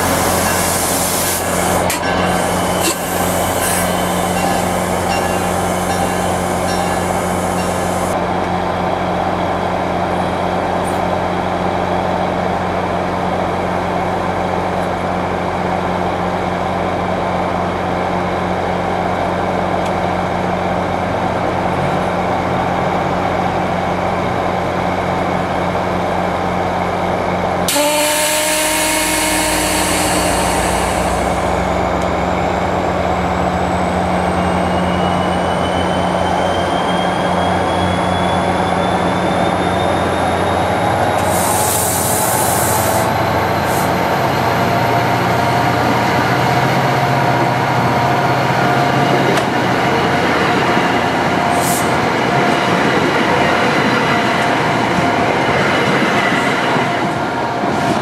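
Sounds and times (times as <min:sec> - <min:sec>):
train humming: 0:00.0 - 0:58.0.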